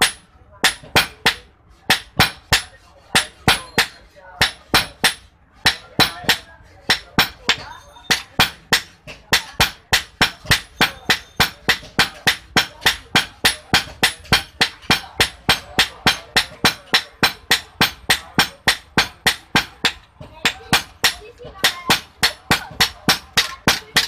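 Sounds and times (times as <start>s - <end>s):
hammer beating steel on anvil: 0.0s - 24.0s.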